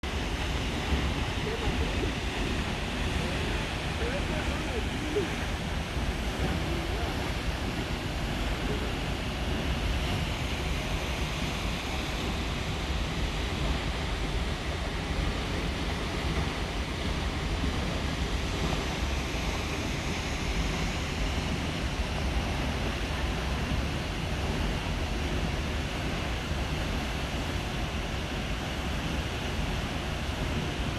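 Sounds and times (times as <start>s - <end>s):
waterfall rushing: 0.0s - 26.8s.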